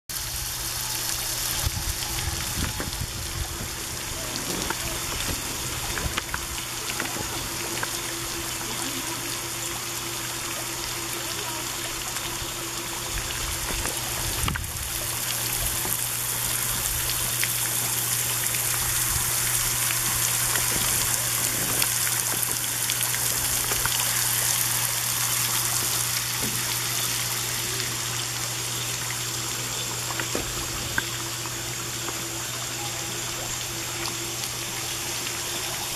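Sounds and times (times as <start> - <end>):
low steady hum: 0.1 - 35.9
water trickling into a pond: 0.1 - 35.9.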